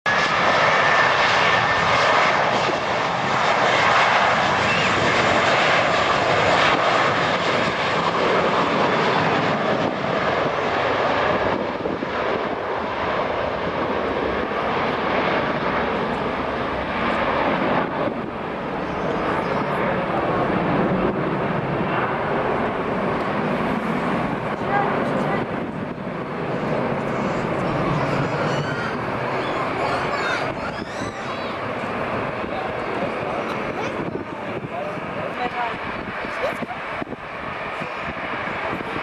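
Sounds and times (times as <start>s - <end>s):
airliner engines running: 0.1s - 39.0s.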